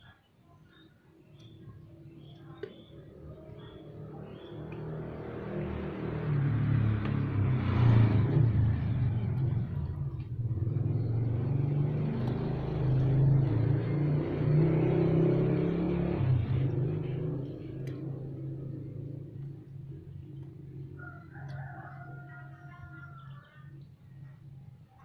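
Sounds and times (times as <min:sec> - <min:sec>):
vehicle engines rumbling: 0:00.6 - 0:25.0.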